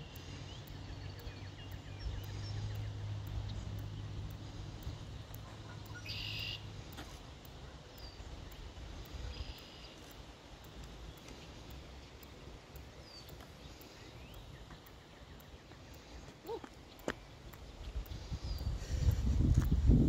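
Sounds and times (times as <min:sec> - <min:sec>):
bird calls and chirps: 0:00.0 - 0:19.2
faint outdoor ambience: 0:00.0 - 0:20.0.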